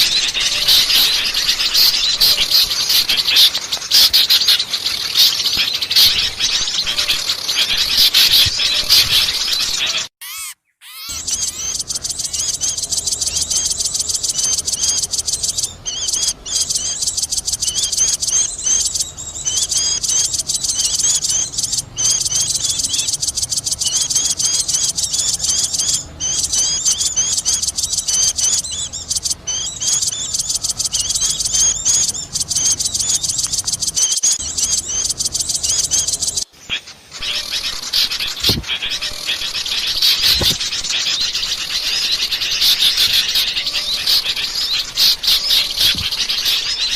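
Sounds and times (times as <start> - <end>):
recorded birds chirping: 0.0 - 46.9.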